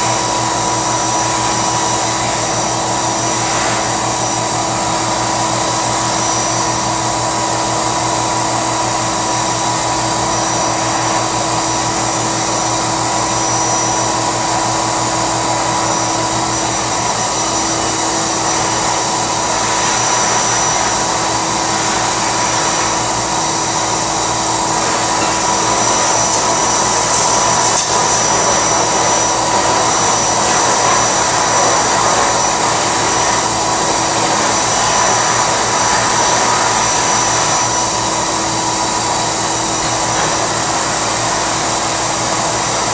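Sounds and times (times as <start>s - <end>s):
air rushing through hose: 0.0s - 42.9s
vacuum cleaner motor hum and whine: 0.0s - 42.9s.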